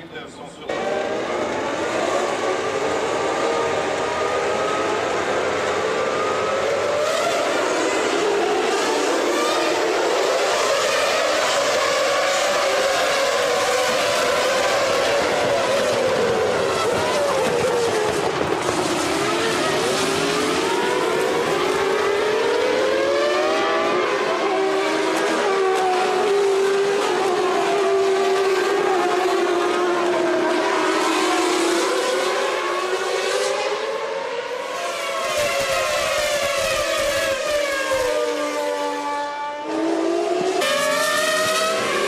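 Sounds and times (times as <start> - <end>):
racing car engines revving: 0.0 - 42.0.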